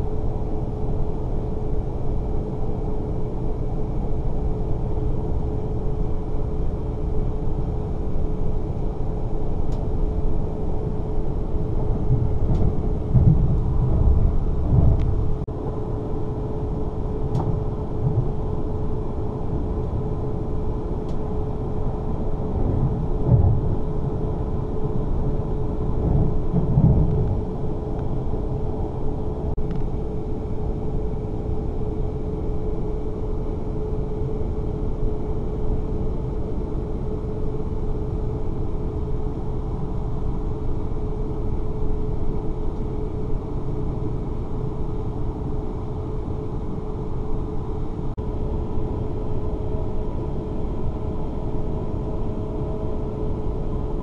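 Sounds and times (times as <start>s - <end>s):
constant hum: 0.0s - 54.0s
train low rumble: 0.0s - 54.0s.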